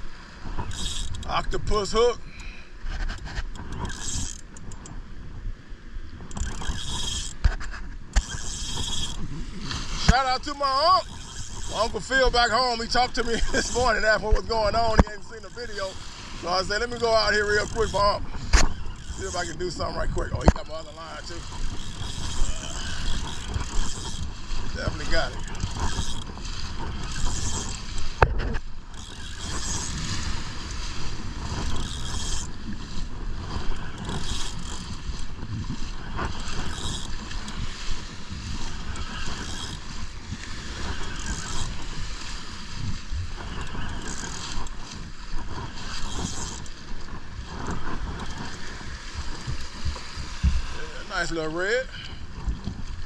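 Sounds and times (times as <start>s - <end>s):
surf washing: 0.0s - 53.0s
fishing reel being cranked: 0.6s - 5.0s, 6.2s - 50.2s
wind buffeting microphone: 6.1s - 53.0s.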